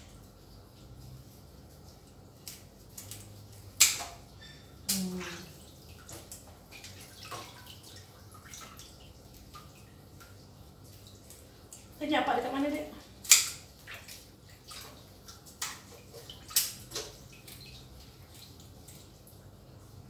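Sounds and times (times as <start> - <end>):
water splashing in a sink: 0.0 - 20.0.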